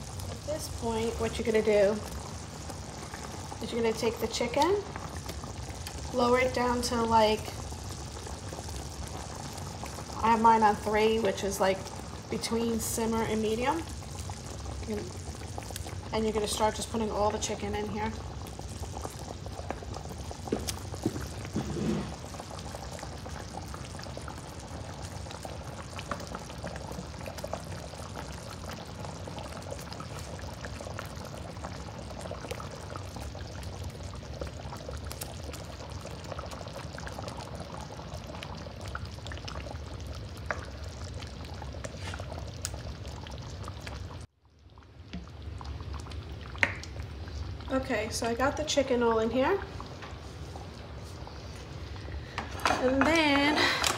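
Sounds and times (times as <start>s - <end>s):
sauce bubbling in a skillet: 0.0s - 53.9s.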